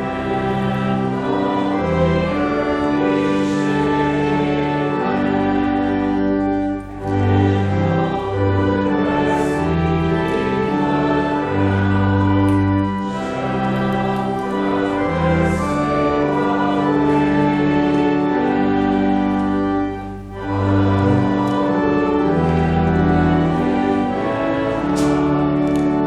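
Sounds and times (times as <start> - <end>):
church organ playing hymn: 0.0 - 26.0
voices singing: 0.0 - 26.0.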